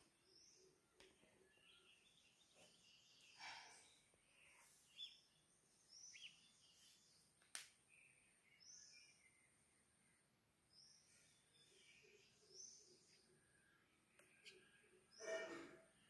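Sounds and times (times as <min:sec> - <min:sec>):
faint bird chirps: 0:00.0 - 0:07.3, 0:07.9 - 0:16.0.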